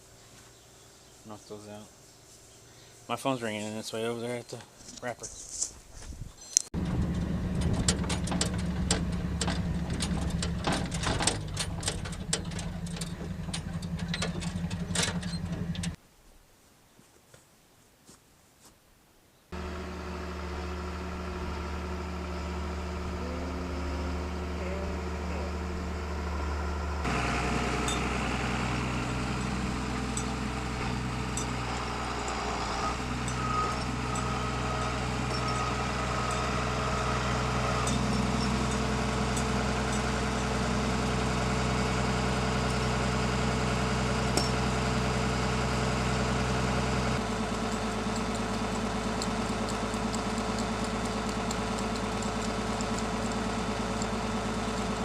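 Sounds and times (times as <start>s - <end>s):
tractor engine running: 6.8s - 16.0s, 19.6s - 55.0s.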